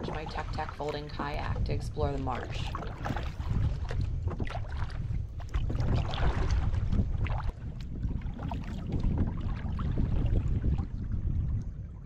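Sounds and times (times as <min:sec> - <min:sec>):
water splashing and lapping: 0:00.0 - 0:12.0
wind buffeting microphone: 0:00.0 - 0:12.0.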